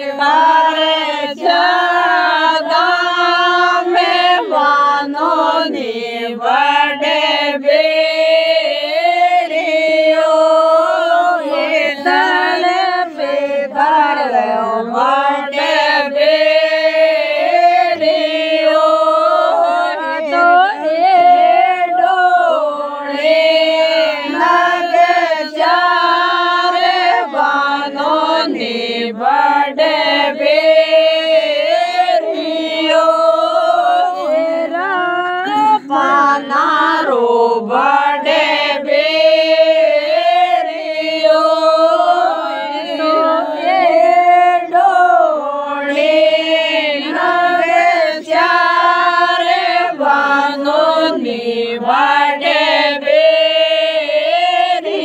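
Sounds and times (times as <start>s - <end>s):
person singing folk song: 0.0s - 55.0s.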